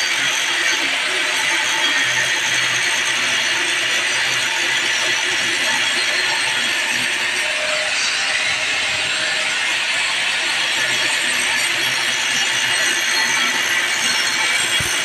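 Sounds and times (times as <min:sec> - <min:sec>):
angle grinder cutting steel: 0:00.0 - 0:15.0.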